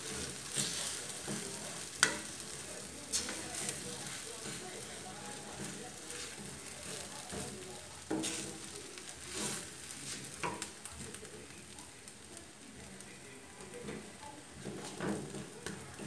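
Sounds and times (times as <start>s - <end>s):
wooden spatula scraping a pan: 0.0s - 11.2s, 13.6s - 16.0s
pancake sizzling in oil: 0.0s - 16.0s.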